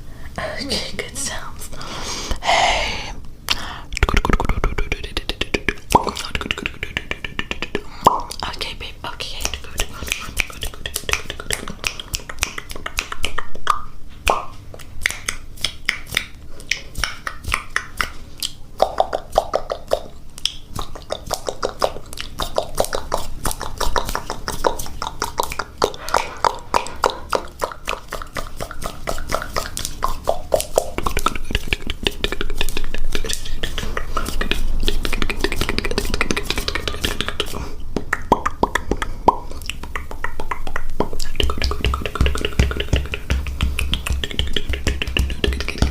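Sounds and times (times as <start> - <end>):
wet mouth clicks and pops: 3.5 - 8.6, 9.4 - 45.9.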